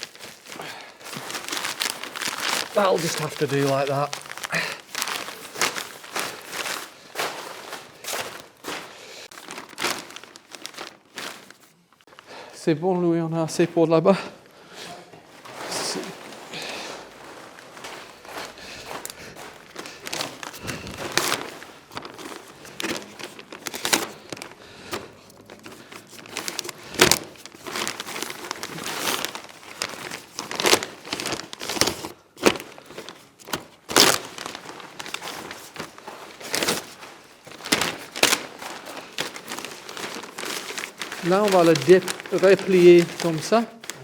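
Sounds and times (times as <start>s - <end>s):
plastic sheeting crinkling: 0.0s - 12.6s, 15.2s - 44.0s.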